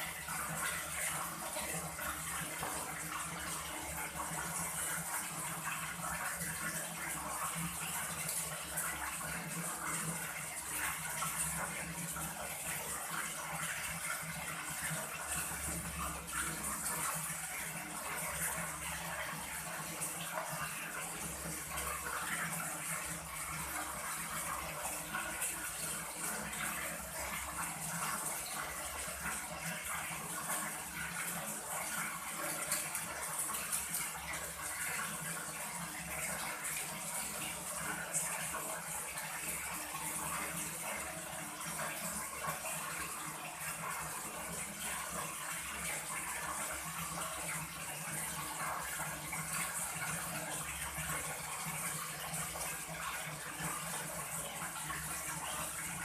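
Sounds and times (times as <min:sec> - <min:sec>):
running and splashing water: 0:00.0 - 0:56.0.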